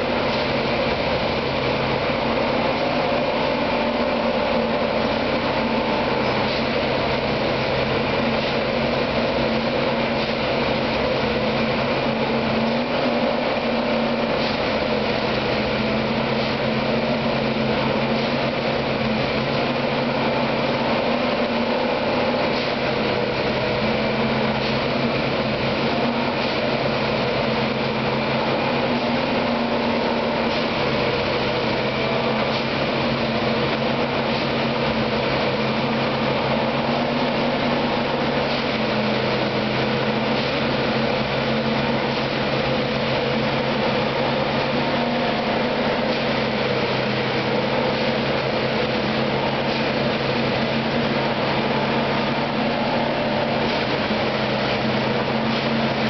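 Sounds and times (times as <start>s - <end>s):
machine engine droning: 0.0s - 56.0s.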